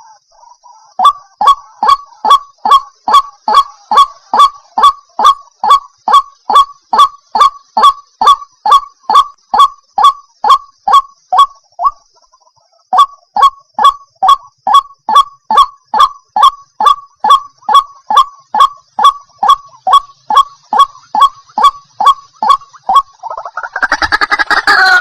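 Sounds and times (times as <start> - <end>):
fuller denser bird call: 0.0 - 25.0.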